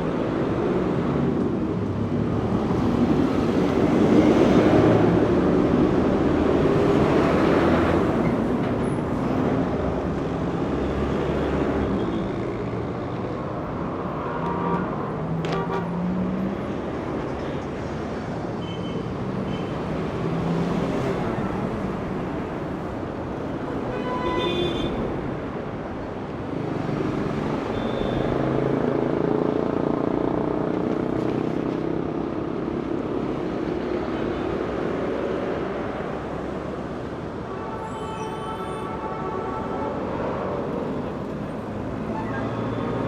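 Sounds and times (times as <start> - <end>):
street traffic noise: 0.0 - 43.0.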